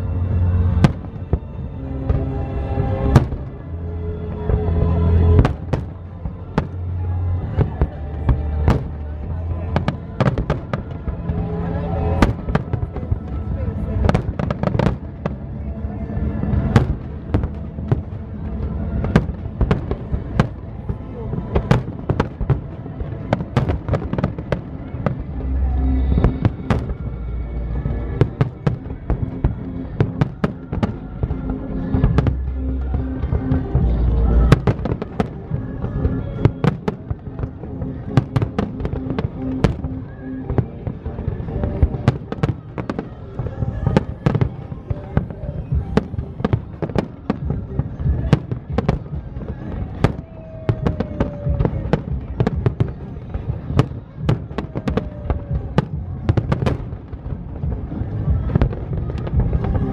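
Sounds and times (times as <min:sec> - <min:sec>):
low rumble: 0:00.0 - 0:59.9
music playing: 0:00.0 - 0:59.9
fireworks bursting: 0:00.3 - 0:03.7, 0:04.3 - 0:15.6, 0:16.2 - 0:59.9.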